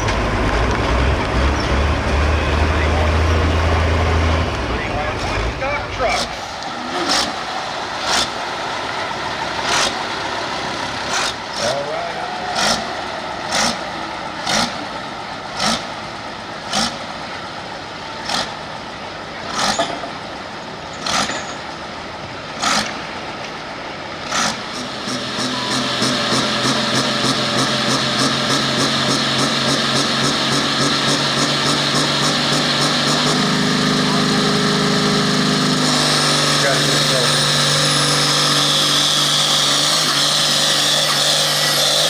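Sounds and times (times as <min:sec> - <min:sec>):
engine revving: 0:00.0 - 0:16.1, 0:16.7 - 0:17.1, 0:18.2 - 0:18.6, 0:21.0 - 0:21.6, 0:22.5 - 0:23.1, 0:24.2 - 0:42.0
tractor engine: 0:00.0 - 0:42.0.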